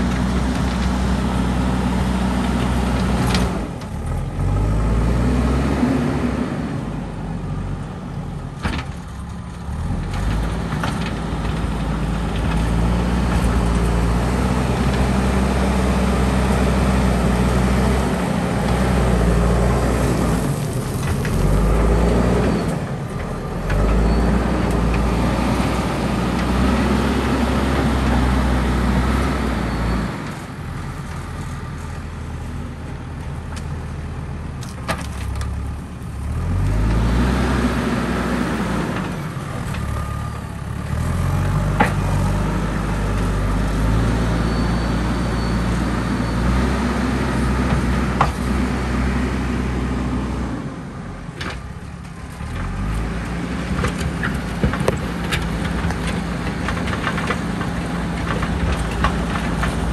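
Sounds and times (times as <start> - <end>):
diesel engine revving: 0.0 - 7.8, 9.6 - 31.5, 36.1 - 59.9.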